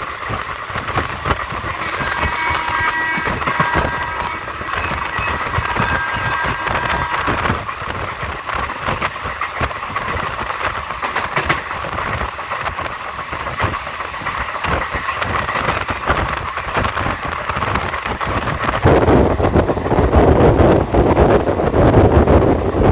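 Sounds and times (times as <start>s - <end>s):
train rumbling on track: 0.0s - 22.9s
wheels knocking and rattling: 0.0s - 22.9s.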